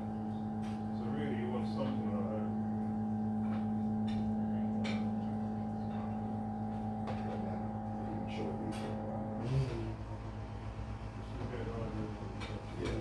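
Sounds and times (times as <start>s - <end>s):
dishwasher pump hum: 0.0s - 13.0s.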